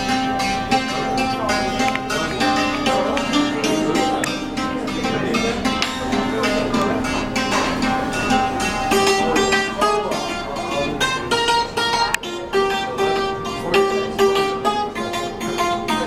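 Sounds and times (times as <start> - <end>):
hammered dulcimer melody: 0.0 - 16.0.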